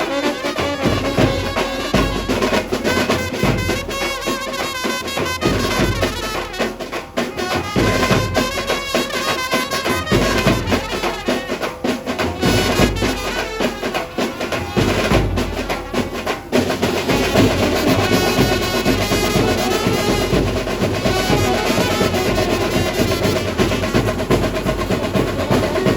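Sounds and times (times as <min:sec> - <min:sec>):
driving drums: 0:00.0 - 0:25.9
saxophones playing melody: 0:00.0 - 0:25.9.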